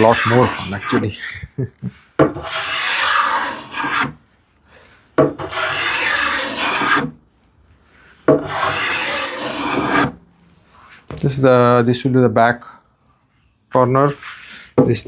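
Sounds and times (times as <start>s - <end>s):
hand plane strokes on wood: 0.0s - 7.2s, 7.8s - 11.7s, 13.7s - 15.0s.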